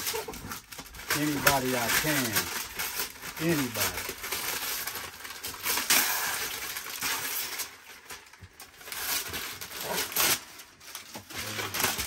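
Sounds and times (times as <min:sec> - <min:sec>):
wrapping paper tearing: 0:00.0 - 0:12.0.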